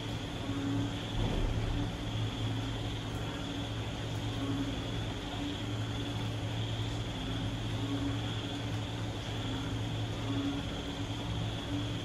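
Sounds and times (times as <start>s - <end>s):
high drone of night creatures: 0.0s - 12.0s.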